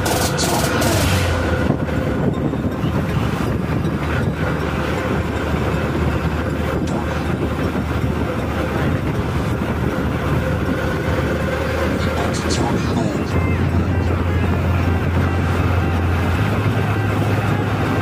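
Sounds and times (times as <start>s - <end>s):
motorcycle engine hum: 0.0s - 18.0s
wind and road noise: 0.0s - 18.0s.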